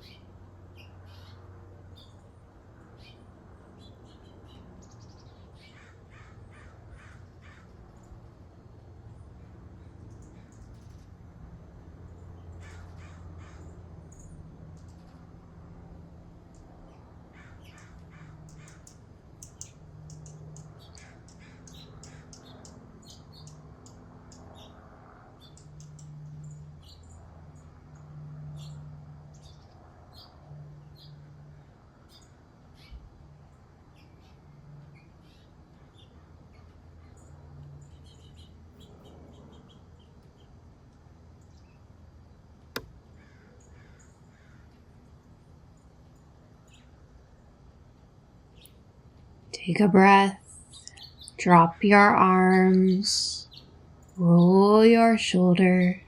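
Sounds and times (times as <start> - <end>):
wild birds chirping: 0.0 - 11.2, 11.9 - 47.8, 48.4 - 56.0.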